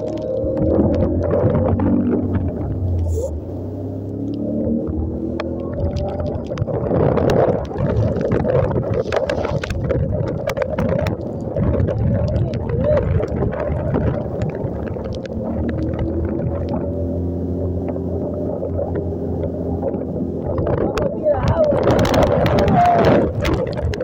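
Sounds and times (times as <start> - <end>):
water splashing and spraying: 0.0 - 24.0.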